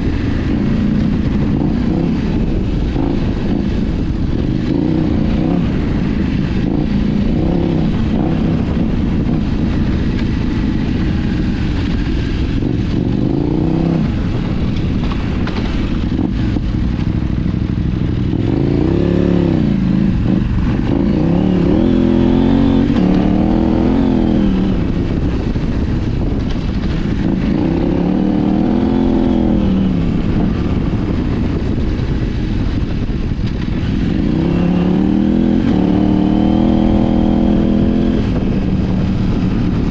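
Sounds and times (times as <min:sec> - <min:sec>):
motorcycle engine revving: 0:00.0 - 0:39.9
wind and riding noise: 0:00.0 - 0:39.9.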